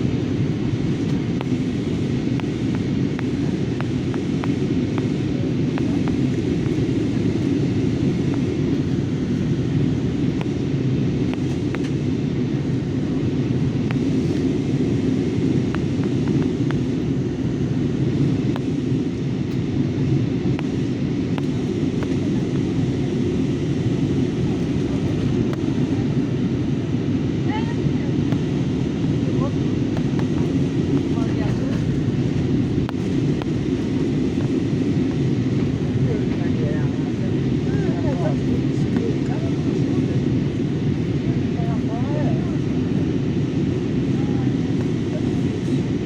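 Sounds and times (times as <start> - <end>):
airliner cabin rumble: 0.0 - 46.0.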